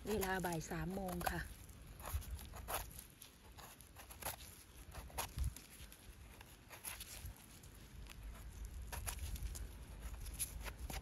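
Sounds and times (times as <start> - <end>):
knife scraping soil: 0.0 - 11.0.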